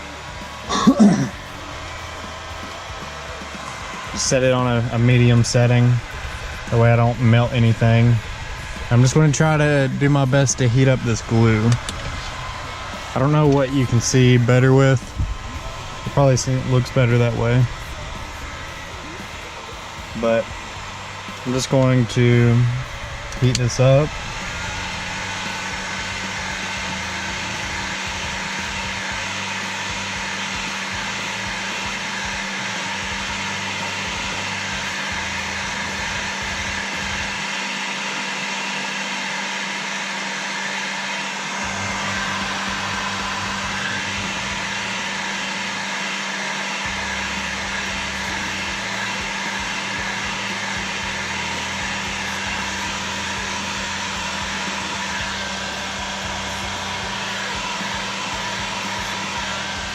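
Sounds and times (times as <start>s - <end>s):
heat gun blowing air: 0.0s - 59.9s.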